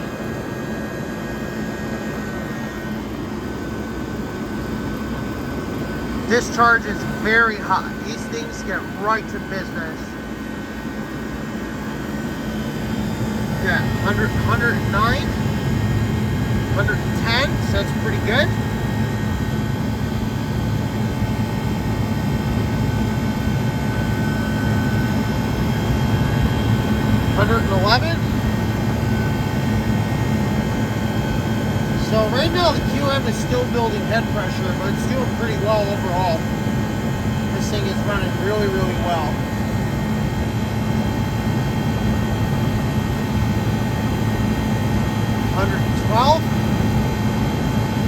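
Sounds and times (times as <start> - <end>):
air conditioner fan rushing: 0.0 - 48.0
faint high whine: 0.0 - 48.0
low compressor hum: 0.0 - 48.0.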